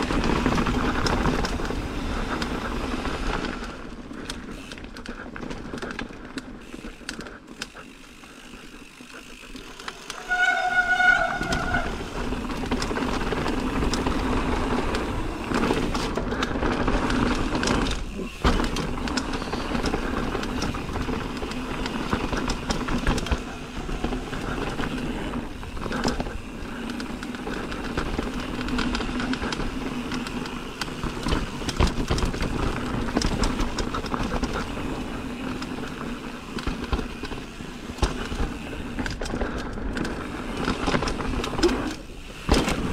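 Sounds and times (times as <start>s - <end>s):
bike tyres rumbling and rattling: 0.0s - 42.9s.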